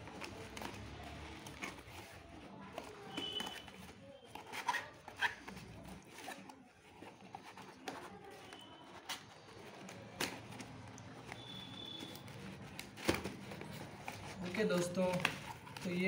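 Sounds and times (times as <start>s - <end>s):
cardboard crackling: 0.0s - 16.0s
cardboard flaps rustling: 0.0s - 16.0s.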